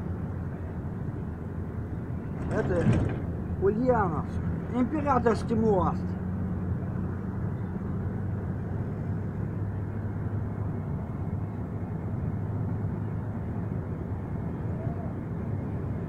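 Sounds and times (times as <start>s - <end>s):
bus engine and road noise: 0.0s - 16.0s
constant low hum: 0.0s - 16.0s.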